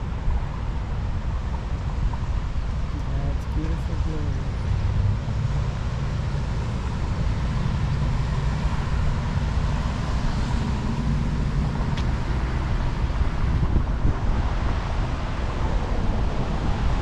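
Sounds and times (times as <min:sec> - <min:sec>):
road traffic hum: 0:00.0 - 0:17.0
wind buffeting microphone: 0:00.0 - 0:17.0.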